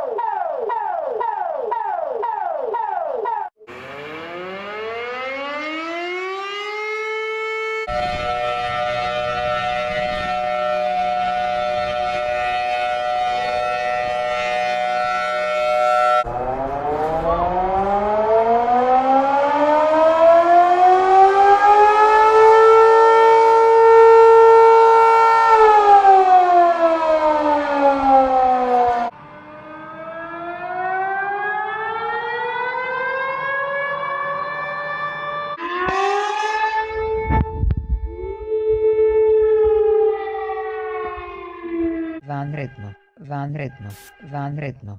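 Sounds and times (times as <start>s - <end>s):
civil defense siren wailing: 0.0s - 44.3s
multi-tone siren chord: 0.0s - 44.6s.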